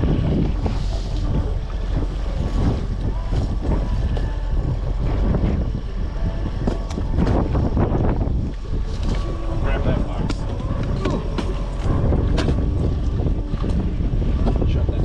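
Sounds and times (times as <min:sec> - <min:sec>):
boat motor drone: 0:00.0 - 0:15.0
water splashing against hull: 0:00.0 - 0:15.0
wind buffeting microphone: 0:00.0 - 0:15.0.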